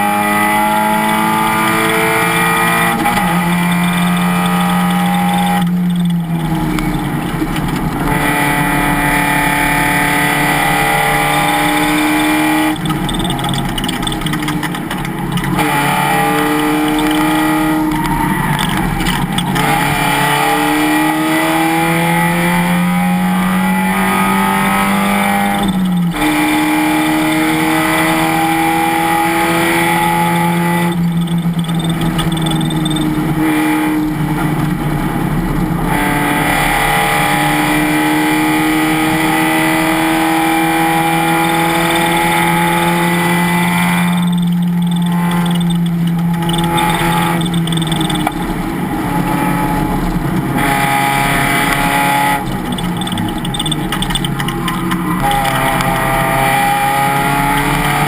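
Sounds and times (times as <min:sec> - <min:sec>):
race car engine accelerating: 0:00.0 - 0:58.0
wind and road noise: 0:00.0 - 0:58.0.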